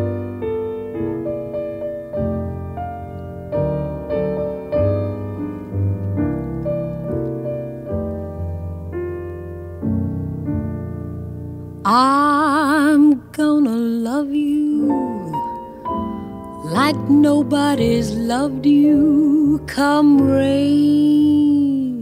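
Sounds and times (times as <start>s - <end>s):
piano chords over bass notes: 0.0s - 22.0s.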